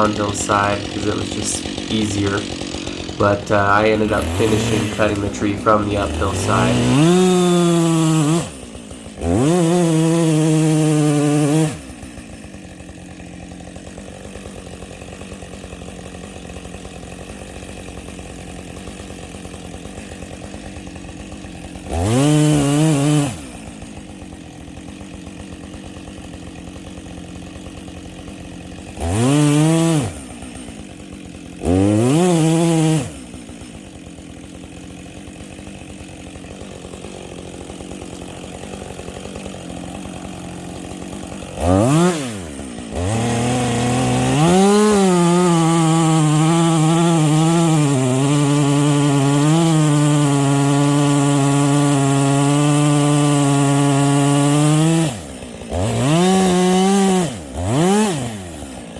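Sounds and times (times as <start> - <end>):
chainsaw idling and revving: 0.0 - 58.9.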